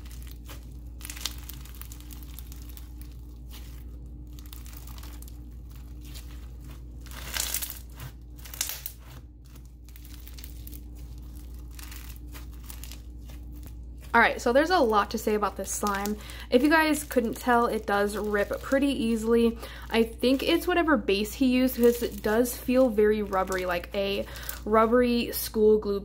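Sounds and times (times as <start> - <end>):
foam bead slime crackling: 0.0 - 26.0.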